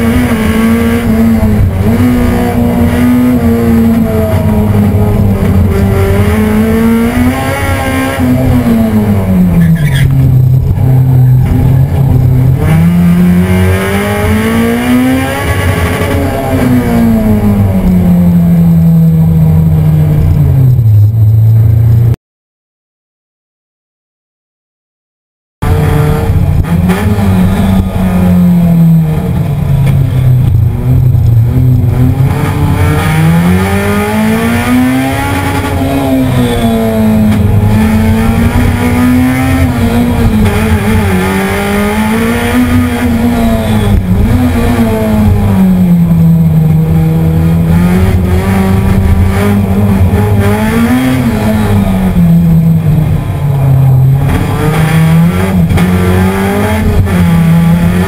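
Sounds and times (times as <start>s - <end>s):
race car engine accelerating: 0.0s - 21.2s, 25.6s - 58.0s.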